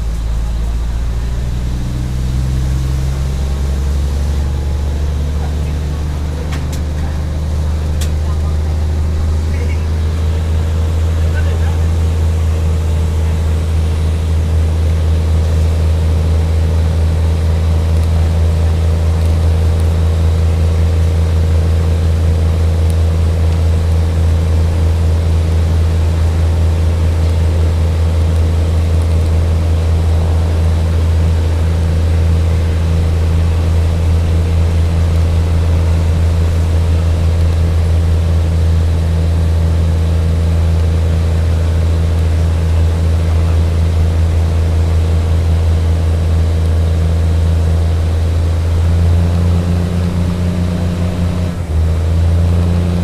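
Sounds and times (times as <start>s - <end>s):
train running low drone: 0.0s - 53.0s.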